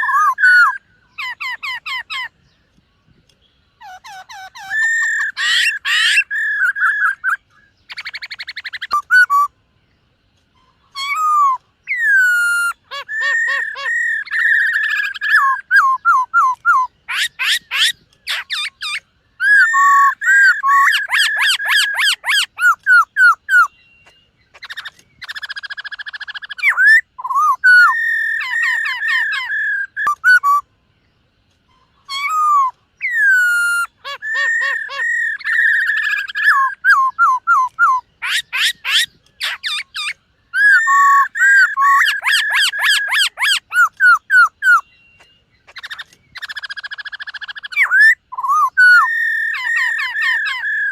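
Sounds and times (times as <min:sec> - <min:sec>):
bird singing whistled trills: 0:00.0 - 0:09.6, 0:10.5 - 0:50.9.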